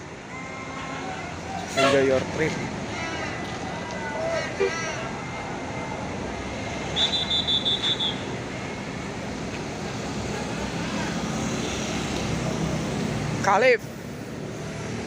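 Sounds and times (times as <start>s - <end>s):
buses passing: 0.0s - 15.0s.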